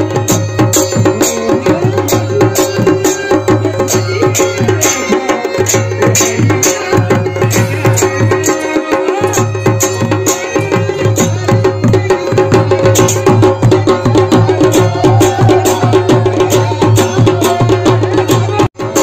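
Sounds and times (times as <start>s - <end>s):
drums beating quick rhythm: 0.0s - 19.0s.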